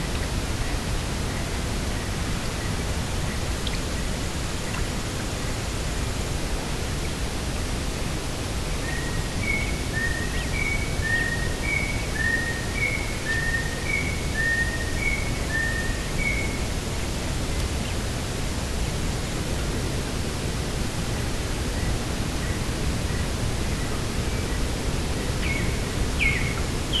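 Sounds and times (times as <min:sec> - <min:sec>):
wind rumble and hiss: 0:00.0 - 0:27.0.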